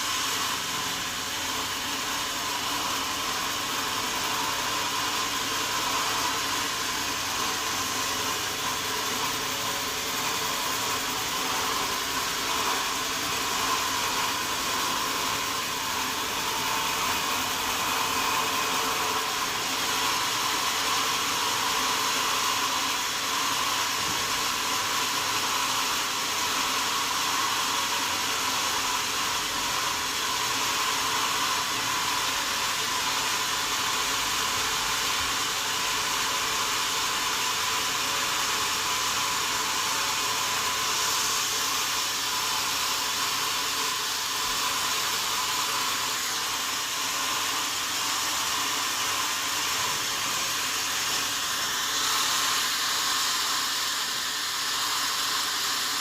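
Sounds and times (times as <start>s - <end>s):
sawmill machinery rushing: 0.0s - 56.0s.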